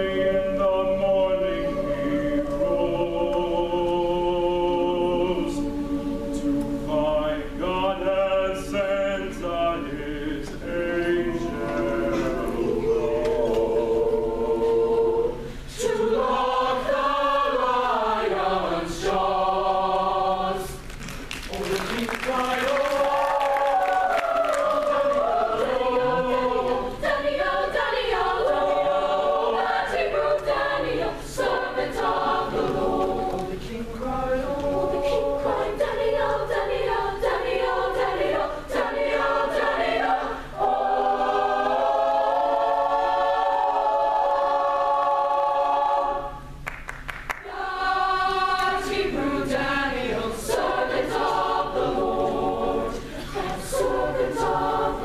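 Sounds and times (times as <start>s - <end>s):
choir singing a cappella: 0.0s - 20.9s, 21.5s - 46.7s, 47.4s - 55.0s.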